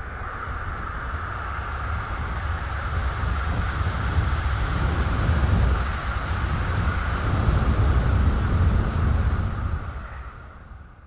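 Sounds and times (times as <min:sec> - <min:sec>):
steady wind: 0:00.0 - 0:11.0.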